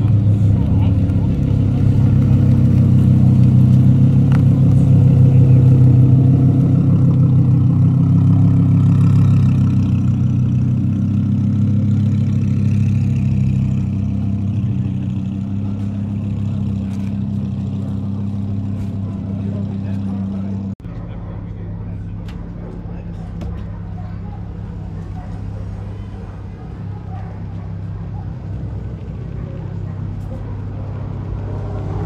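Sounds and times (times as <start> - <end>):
car engine at low revs: 0.0 - 32.0.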